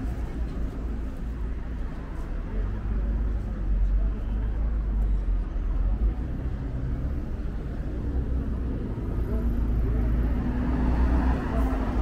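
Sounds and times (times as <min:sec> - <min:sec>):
faint engine hum: 0:00.0 - 0:12.0
low rumble of road traffic: 0:00.0 - 0:12.0.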